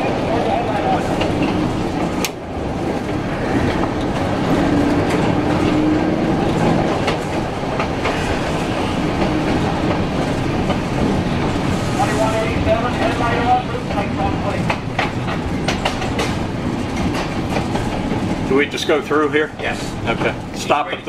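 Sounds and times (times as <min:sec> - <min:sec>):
steel wheels rumbling on rail: 0:00.0 - 0:21.0
streetcar motor hum: 0:00.0 - 0:21.0
wheels clicking over rail joints: 0:00.6 - 0:21.0.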